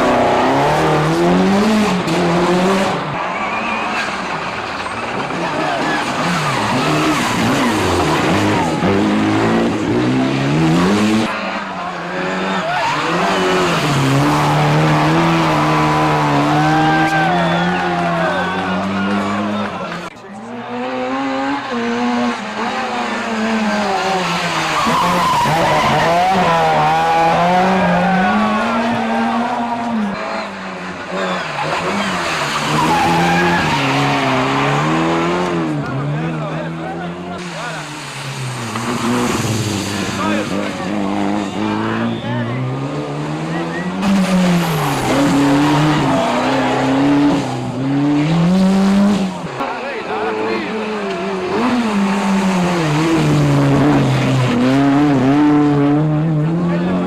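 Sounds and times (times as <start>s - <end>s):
rally car engine accelerating: 0.0s - 57.0s
tyre noise on road: 0.0s - 57.0s.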